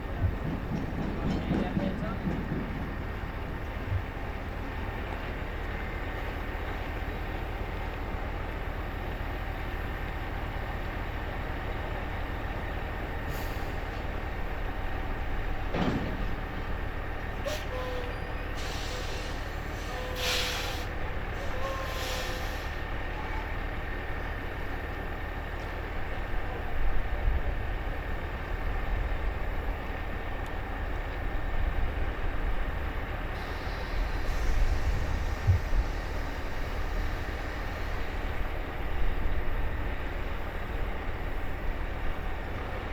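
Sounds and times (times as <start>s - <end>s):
boat engine rumble: 0.0s - 42.9s.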